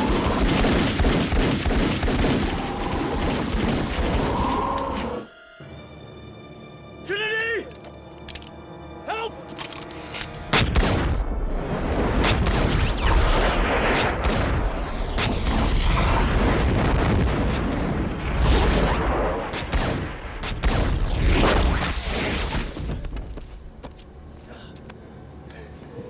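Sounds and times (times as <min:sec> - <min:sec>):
film score music: 0:00.0 - 0:26.0.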